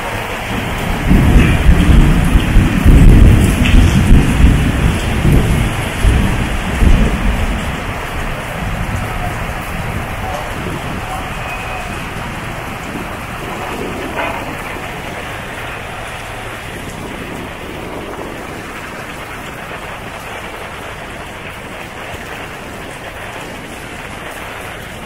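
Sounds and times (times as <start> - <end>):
heavy rain on wet pavement: 0.0 - 25.0.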